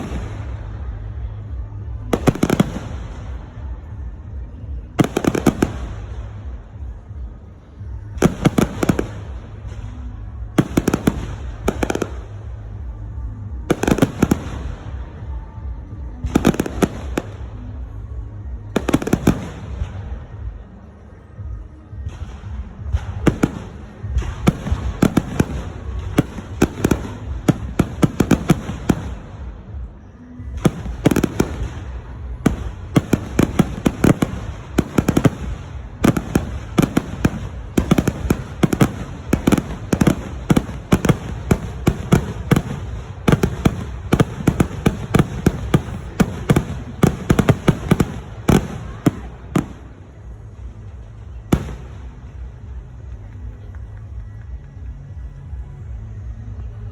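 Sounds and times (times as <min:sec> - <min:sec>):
fireworks bangs: 0:00.0 - 0:54.2.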